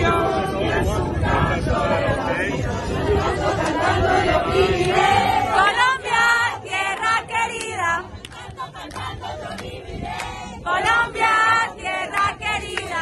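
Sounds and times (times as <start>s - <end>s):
crowd chanting and shouting: 0.0s - 13.0s.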